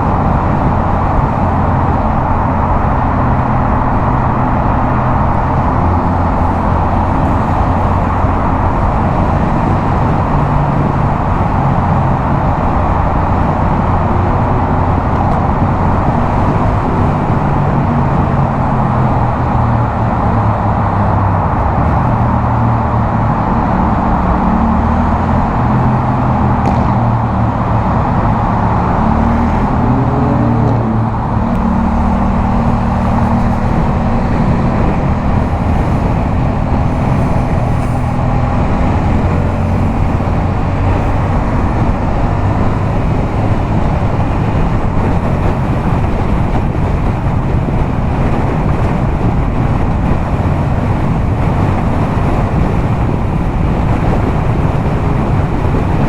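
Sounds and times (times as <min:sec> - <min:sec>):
motorcycle engine cruising: 0:00.0 - 0:56.0
road noise: 0:00.0 - 0:56.0
wind noise: 0:00.0 - 0:56.0.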